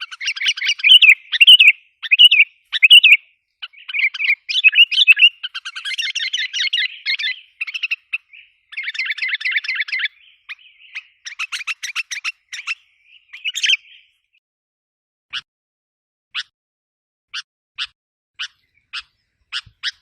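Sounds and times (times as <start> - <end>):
bird chattering with rattling trills: 0.0 - 14.2, 17.3 - 20.0
bird sharp repeated notes: 0.0 - 14.2, 16.3 - 16.6, 17.3 - 20.0.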